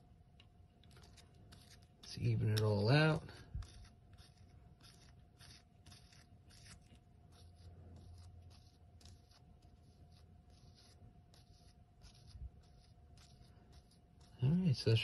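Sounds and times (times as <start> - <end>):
soft scraping strokes: 0.8 - 15.0.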